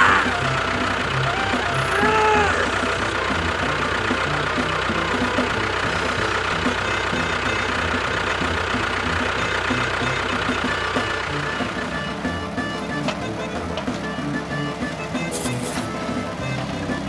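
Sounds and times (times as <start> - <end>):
background music: 0.0 - 17.0
engine idling with knocking: 0.0 - 17.0.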